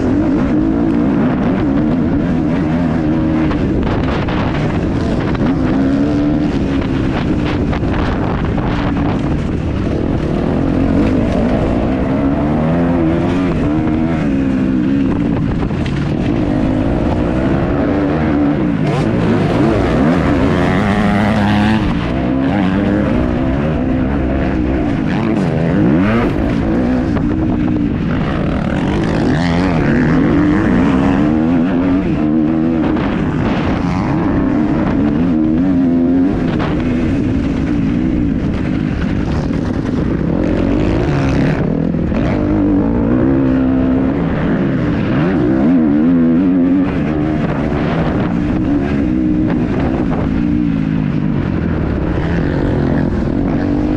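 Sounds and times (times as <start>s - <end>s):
motocross engine revving: 0.0s - 53.9s.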